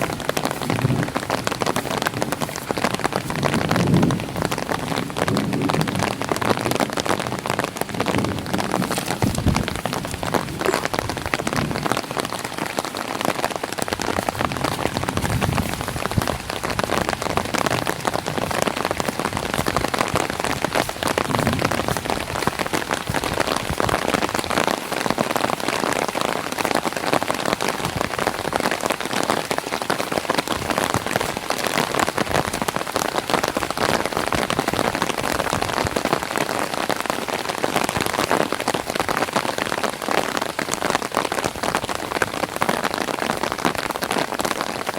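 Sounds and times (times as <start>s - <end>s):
rain on an umbrella: 0.0s - 44.9s.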